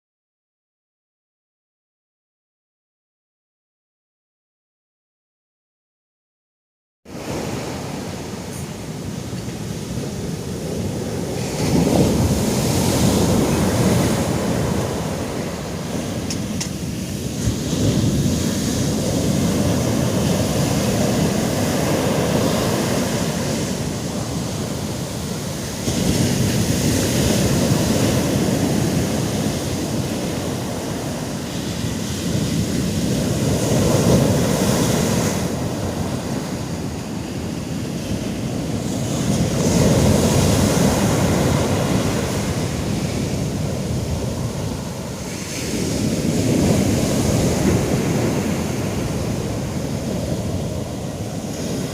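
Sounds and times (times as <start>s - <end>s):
sea waves breaking on shore: 7.1s - 51.9s
wind on microphone: 7.1s - 51.9s.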